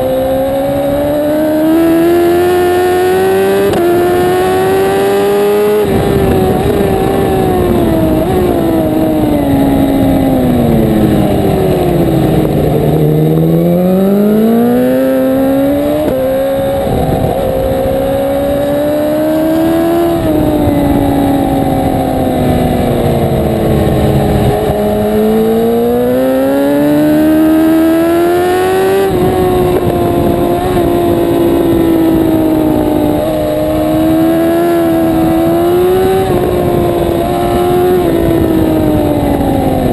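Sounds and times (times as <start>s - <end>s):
motorcycle engine racing: 0.0s - 39.9s.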